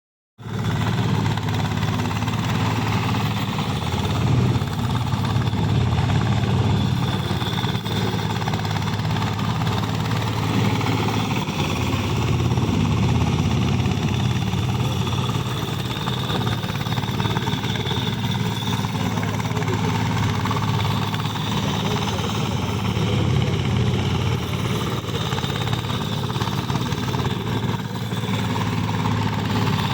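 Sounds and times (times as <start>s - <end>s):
machine engine running steadily: 0.4s - 29.9s.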